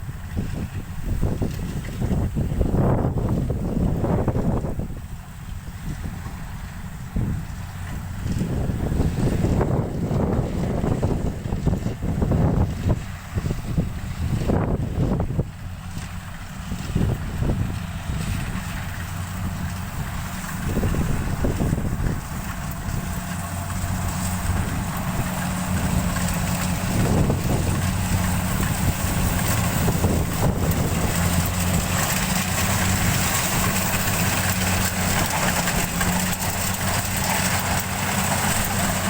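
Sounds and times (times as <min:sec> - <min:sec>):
combine harvester running: 0:00.0 - 0:39.0.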